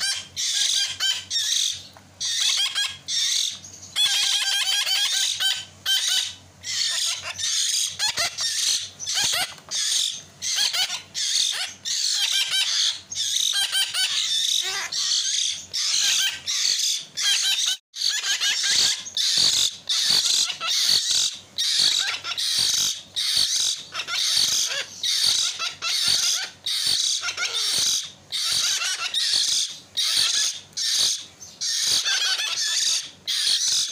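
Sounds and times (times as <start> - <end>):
chicks rasping begging calls: 0.0 - 33.9.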